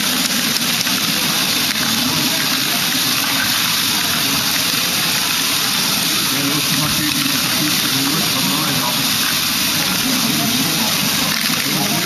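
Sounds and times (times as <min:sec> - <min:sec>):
motors and plastic gears whirring: 0:00.0 - 0:12.0.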